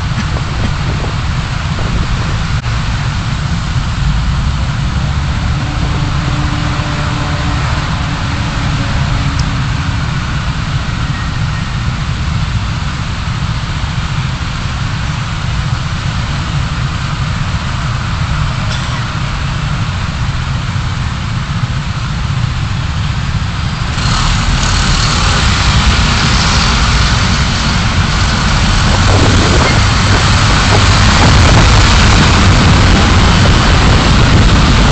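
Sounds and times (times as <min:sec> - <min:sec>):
car engine and road noise: 0:00.0 - 0:34.9
loud hiss: 0:00.0 - 0:34.9.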